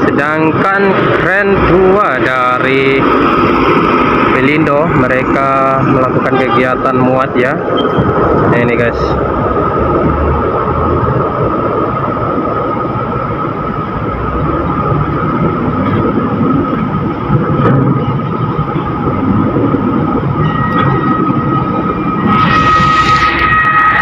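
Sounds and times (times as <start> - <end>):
heavy diesel machinery rumbling: 0.0 - 24.0
high-pitched whine: 0.0 - 24.0.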